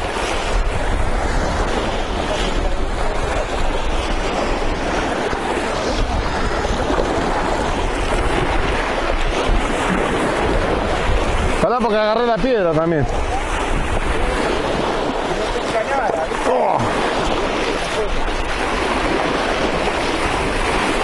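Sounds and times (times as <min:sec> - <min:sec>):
water washing along shore: 0:00.0 - 0:21.0
wind on microphone: 0:00.0 - 0:21.0.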